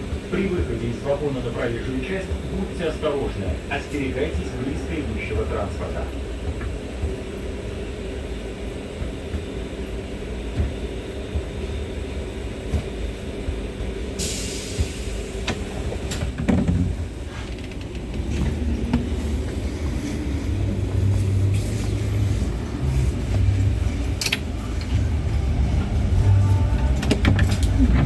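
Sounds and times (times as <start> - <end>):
tram wheels rumbling on rail: 0.0 - 28.0.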